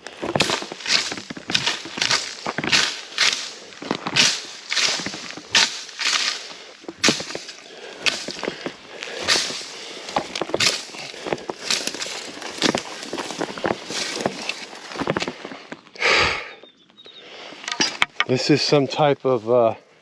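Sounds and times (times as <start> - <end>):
footsteps crunching on dry ground: 0.0 - 16.0, 16.9 - 19.9
twigs crackling: 0.0 - 16.0, 16.9 - 19.6.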